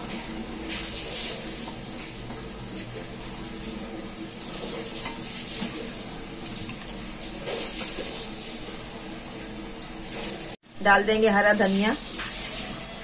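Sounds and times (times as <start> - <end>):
wooden spatula scraping a pan: 0.0 - 3.2, 4.0 - 10.6, 12.0 - 13.0
sauce sizzling and spluttering: 0.0 - 13.0.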